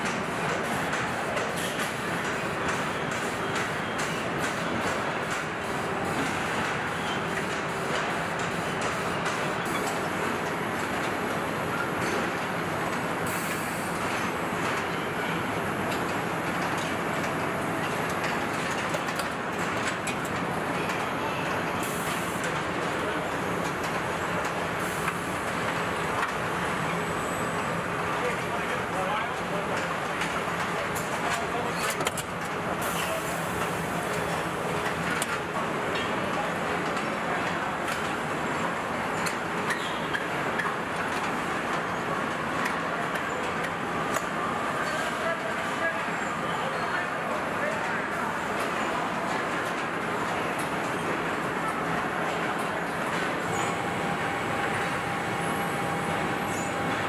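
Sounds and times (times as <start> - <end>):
conveyors and machinery din: 0.0 - 57.0.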